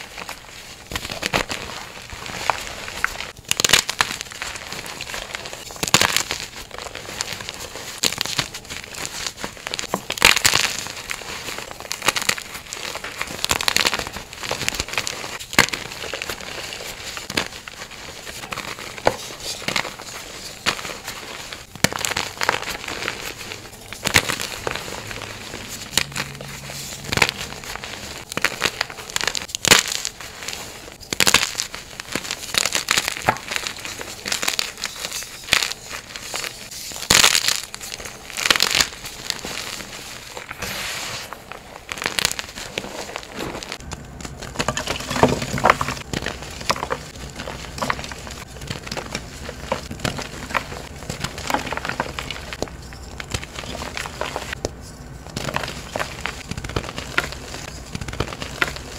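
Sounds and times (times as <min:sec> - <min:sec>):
chalk crushed by hand: 0:00.9 - 0:54.7.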